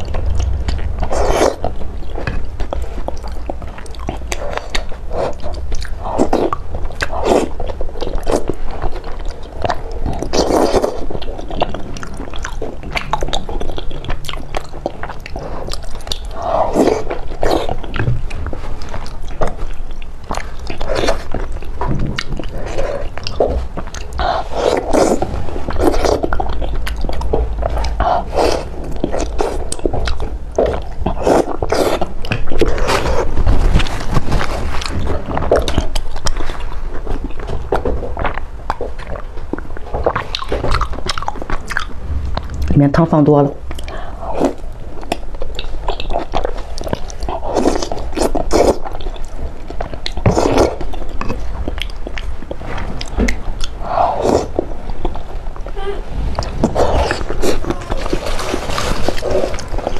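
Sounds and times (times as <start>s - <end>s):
wet chewing and slurping: 0.0s - 42.8s, 43.5s - 59.9s.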